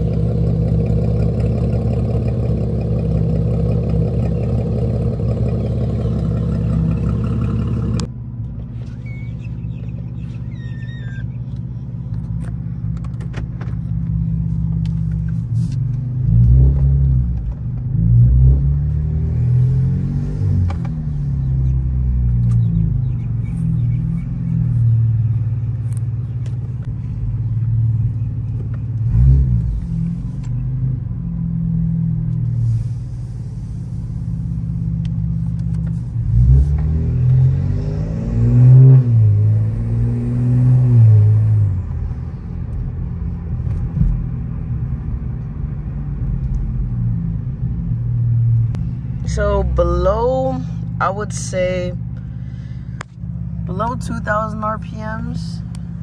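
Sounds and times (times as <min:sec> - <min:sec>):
car engine and exhaust: 0:00.0 - 0:56.0.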